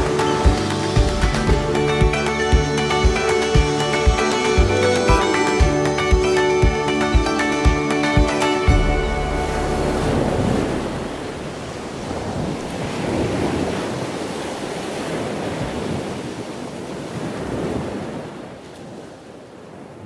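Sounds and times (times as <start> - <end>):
ocean surf washing in: 0.0 - 20.0.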